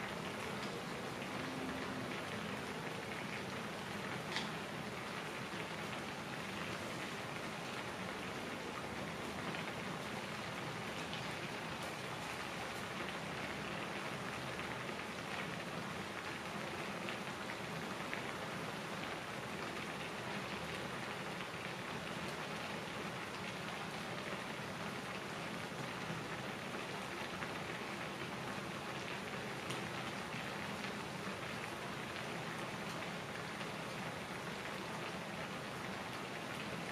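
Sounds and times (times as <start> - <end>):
broth boiling in a pan: 0.0 - 36.9.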